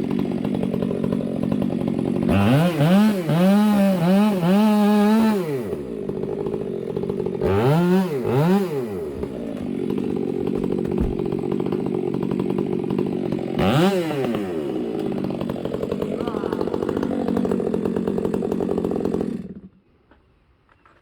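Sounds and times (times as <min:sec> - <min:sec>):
chainsaw revving and idling: 0:00.0 - 0:19.8.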